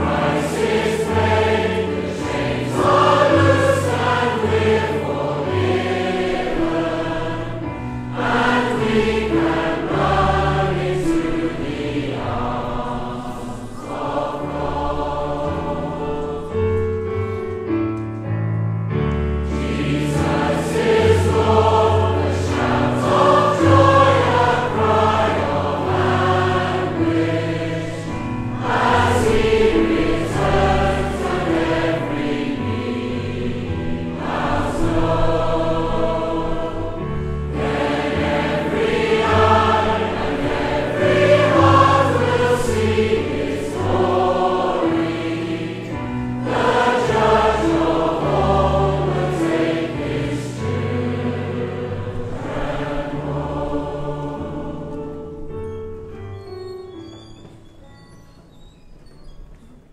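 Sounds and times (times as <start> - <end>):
congregation singing a hymn: 0.0 - 18.3, 19.1 - 55.9
low instrumental accompaniment: 0.0 - 59.9.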